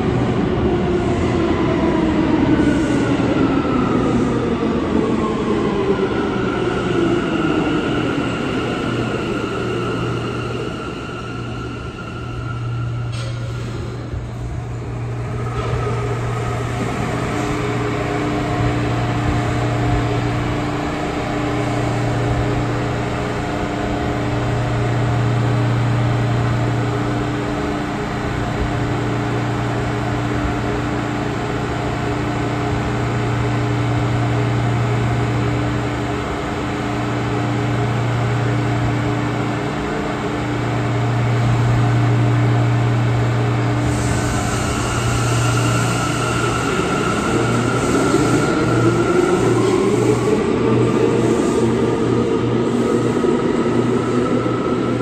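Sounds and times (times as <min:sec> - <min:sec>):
subway train equipment humming: 0:00.0 - 0:55.0.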